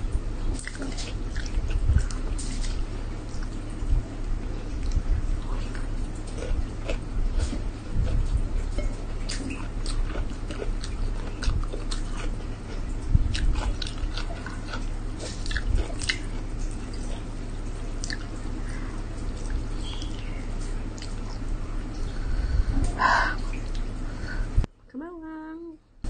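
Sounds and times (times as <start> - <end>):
low hum: 0.0 - 26.0
person chewing food: 0.4 - 22.1.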